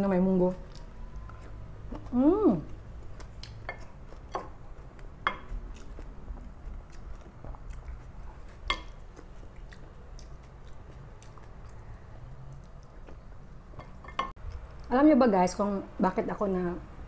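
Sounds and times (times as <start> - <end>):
person chewing: 0.6 - 14.9.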